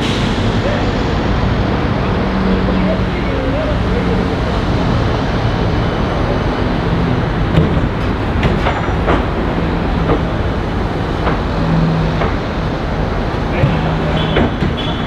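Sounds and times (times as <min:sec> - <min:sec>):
road traffic: 0:00.0 - 0:15.0
tram rumbling: 0:00.0 - 0:15.0.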